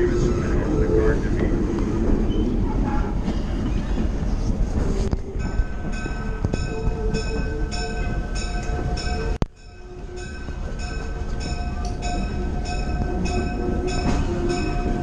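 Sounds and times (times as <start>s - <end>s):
train car rumble and rattle: 0.0s - 15.0s.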